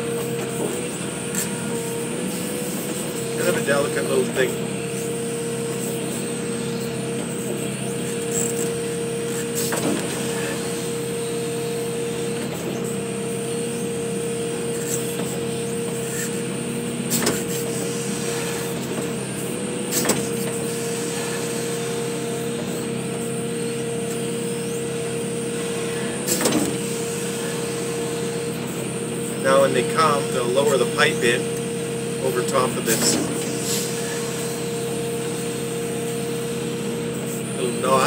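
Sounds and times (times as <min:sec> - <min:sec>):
excavator engine and hydraulics: 0:00.0 - 0:38.0
steady whine: 0:00.0 - 0:38.0.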